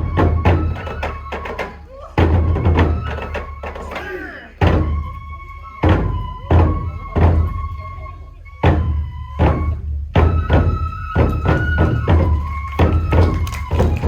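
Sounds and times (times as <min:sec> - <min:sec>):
deep drum beats: 0:00.0 - 0:07.8, 0:08.6 - 0:14.0.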